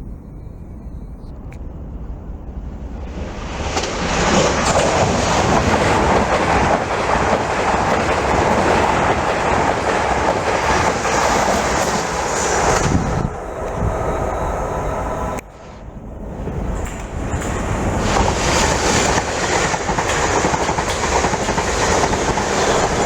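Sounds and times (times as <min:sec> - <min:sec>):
train passing on track: 0:00.0 - 0:23.0.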